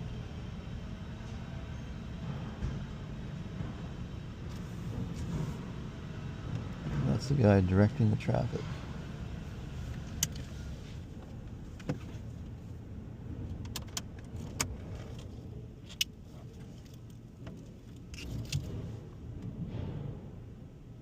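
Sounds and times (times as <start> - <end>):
low rumble of vehicles: 0.0 - 21.0.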